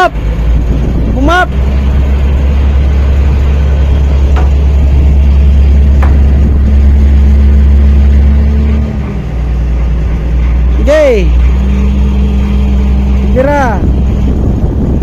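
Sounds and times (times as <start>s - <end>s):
crane engine droning: 0.0s - 15.0s.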